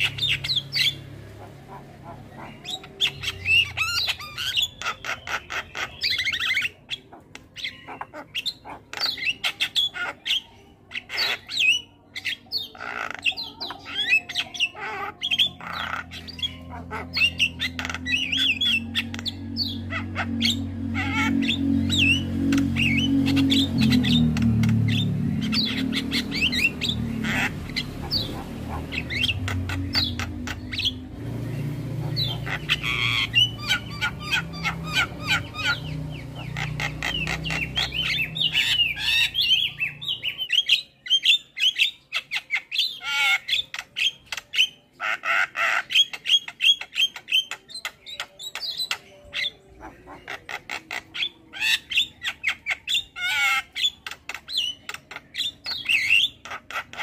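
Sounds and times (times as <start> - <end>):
starlings chattering: 0.0 - 57.0.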